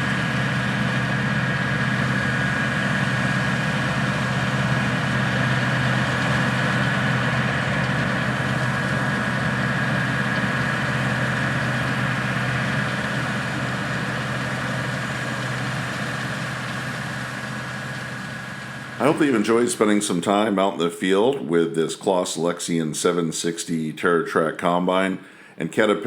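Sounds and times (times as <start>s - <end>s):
diesel harvest machinery running: 0.0s - 23.2s, 25.2s - 25.6s
thin steady whine: 0.0s - 26.0s.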